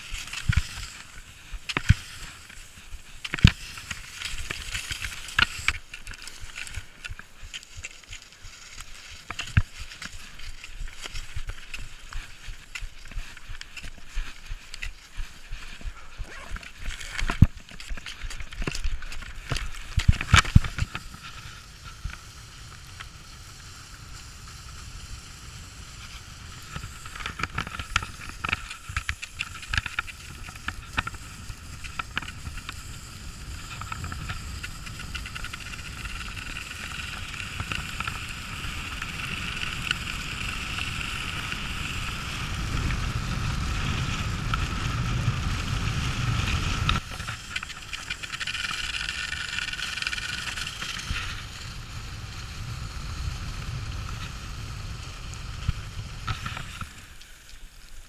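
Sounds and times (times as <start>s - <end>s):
wind rumbling on microphone: 0.0s - 57.7s
skis hissing on snow: 0.0s - 58.0s.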